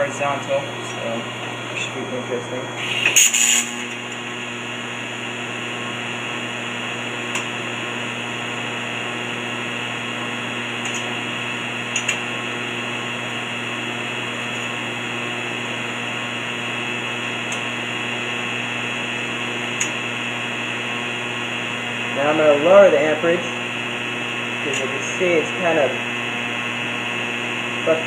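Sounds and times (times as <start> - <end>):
welding arc hissing: 0.0 - 28.0.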